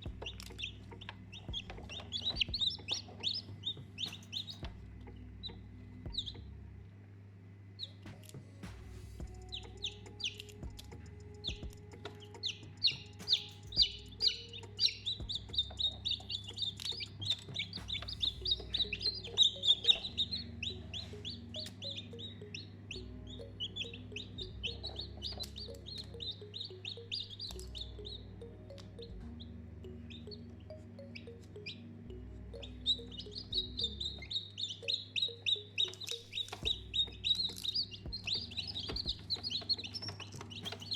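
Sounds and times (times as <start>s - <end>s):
baby chicks peeping: 0.0s - 6.5s, 7.8s - 8.4s, 9.2s - 31.9s, 32.5s - 40.9s.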